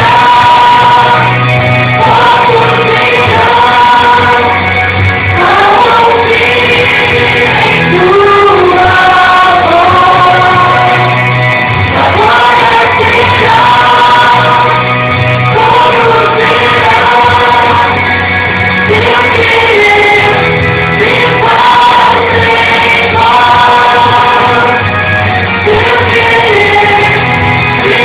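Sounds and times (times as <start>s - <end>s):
instrumental backing with bass: 0.0s - 28.0s
voices singing together: 0.0s - 28.0s.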